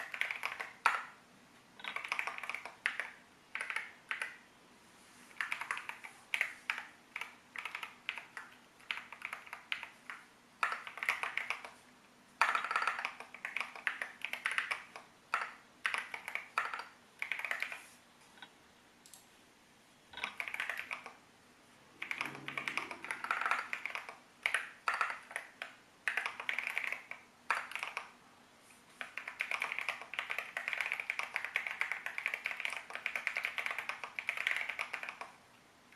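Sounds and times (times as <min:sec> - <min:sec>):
mechanical keyboard typing: 0:00.0 - 0:01.1, 0:01.8 - 0:04.4, 0:05.3 - 0:11.8, 0:12.4 - 0:17.9, 0:20.2 - 0:21.2, 0:21.9 - 0:28.2, 0:28.9 - 0:35.4.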